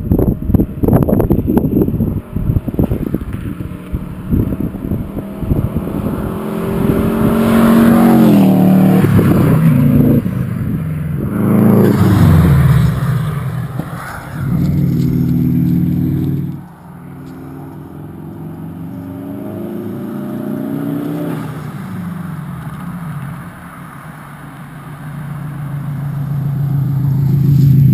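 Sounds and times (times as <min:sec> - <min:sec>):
car engine accelerating past: 0:02.5 - 0:27.9.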